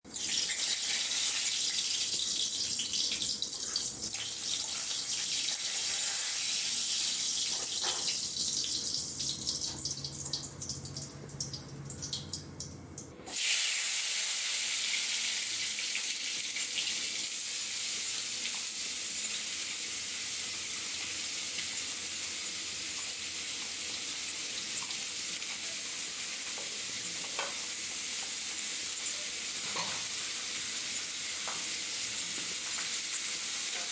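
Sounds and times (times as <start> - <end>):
food sizzling in hot oil: 0.1 - 10.9, 13.3 - 33.9.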